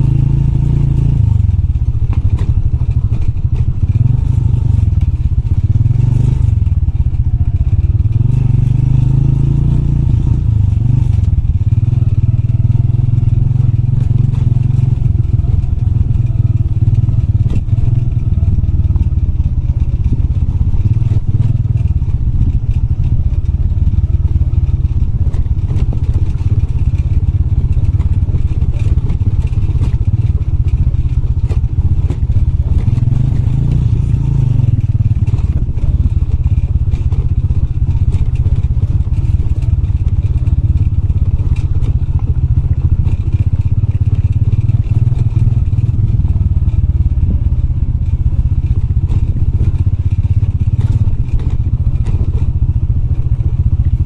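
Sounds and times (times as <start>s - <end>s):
motorbike engine running: 0.0s - 54.0s.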